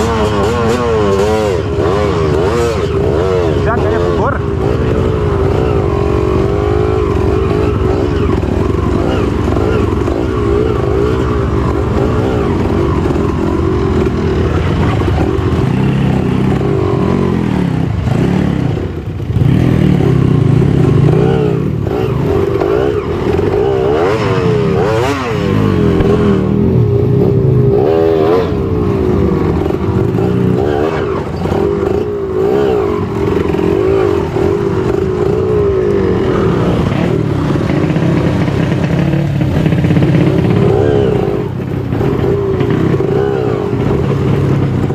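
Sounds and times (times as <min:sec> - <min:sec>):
motorcycle engine revving in mud: 0:00.0 - 0:44.9.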